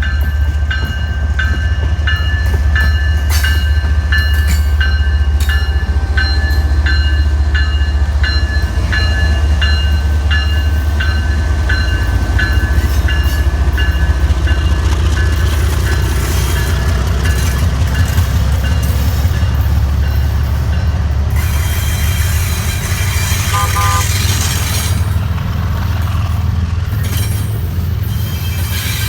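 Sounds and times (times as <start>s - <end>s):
passing train rumble: 0.0s - 29.0s
railroad crossing bell ringing: 0.0s - 29.0s.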